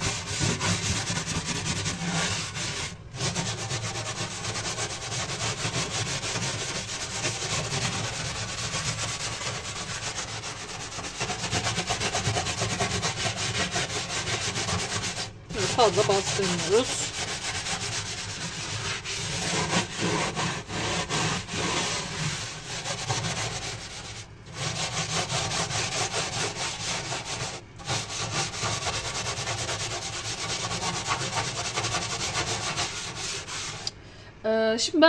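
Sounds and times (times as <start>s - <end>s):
steel wool scrubbing: 0.0s - 33.9s.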